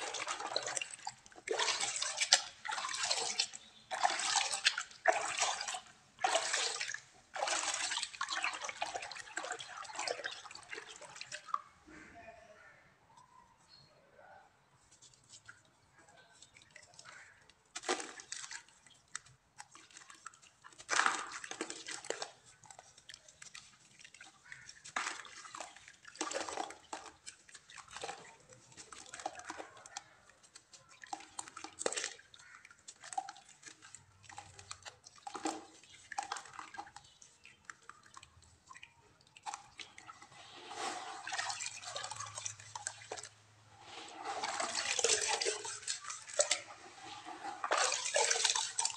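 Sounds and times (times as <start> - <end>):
hands squeezing wet clay: 0.0 - 11.8, 14.8 - 48.9
water splashing and sloshing: 0.0 - 11.9, 14.8 - 48.9.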